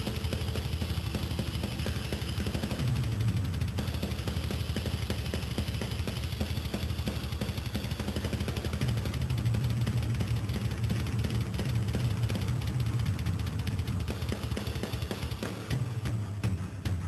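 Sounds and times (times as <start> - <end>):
rapid bass drum beats: 0.0 - 17.0.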